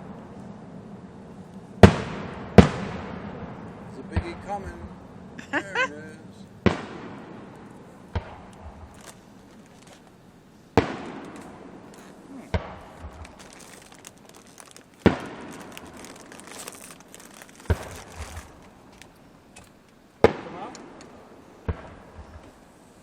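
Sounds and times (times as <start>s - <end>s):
fireworks booming: 0.0s - 22.7s
faint fireworks crackling: 0.0s - 23.0s.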